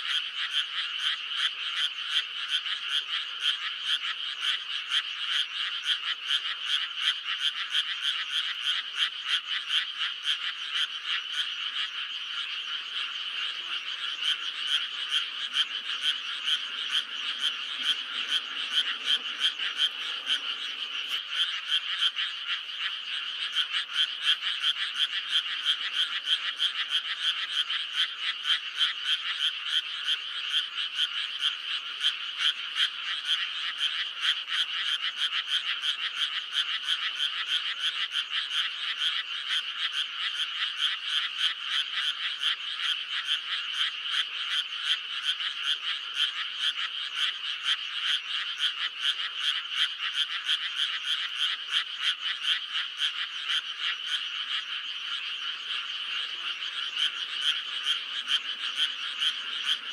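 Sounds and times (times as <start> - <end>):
frogs croaking in chorus: 0.0 - 59.9.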